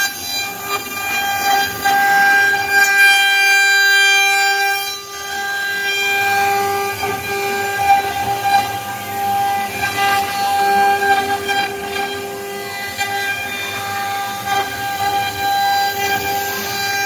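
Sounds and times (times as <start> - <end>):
router spindle high-pitched whine: 0.0 - 17.0.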